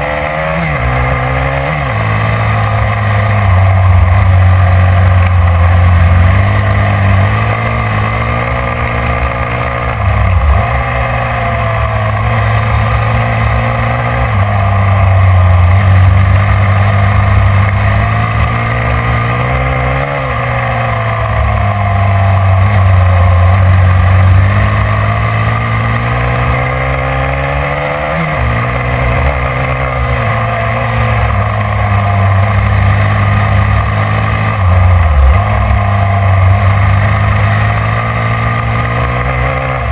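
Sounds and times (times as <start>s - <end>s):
snowmobile engine revving: 0.0s - 39.9s
steady rushing noise: 0.0s - 39.9s.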